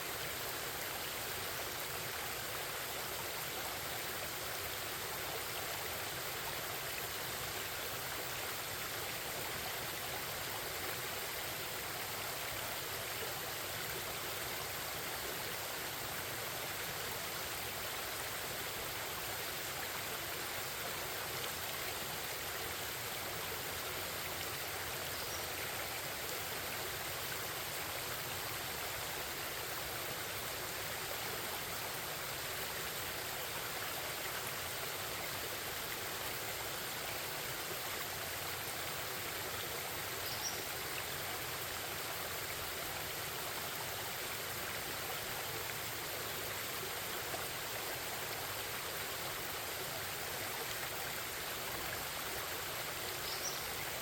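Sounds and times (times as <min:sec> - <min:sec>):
stream babbling: 0:00.0 - 0:54.0.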